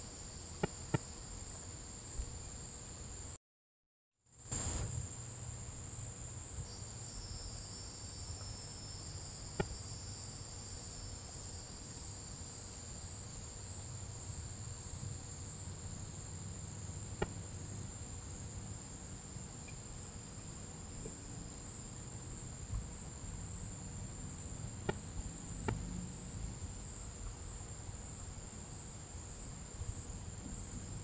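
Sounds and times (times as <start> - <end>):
night insects chorus: 0.0 - 3.4, 4.4 - 31.0.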